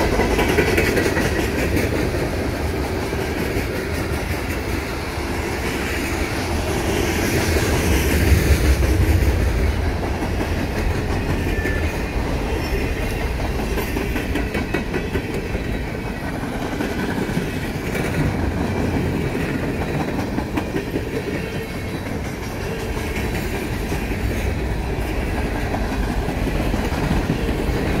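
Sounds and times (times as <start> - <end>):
steel wheels rolling on rails: 0.0 - 28.0.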